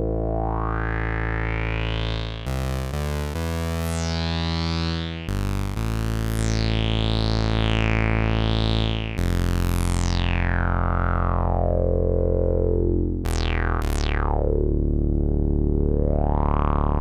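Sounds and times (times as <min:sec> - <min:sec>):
synthesizer bass notes: 0:00.0 - 0:17.0.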